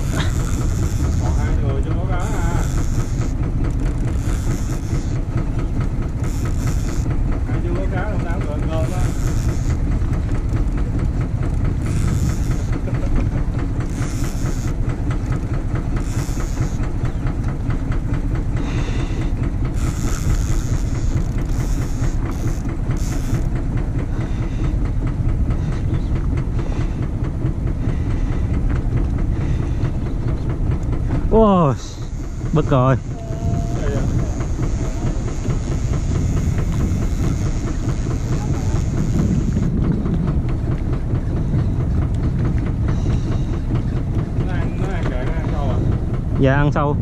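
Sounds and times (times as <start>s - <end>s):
boat engine rumble: 0.0s - 47.0s.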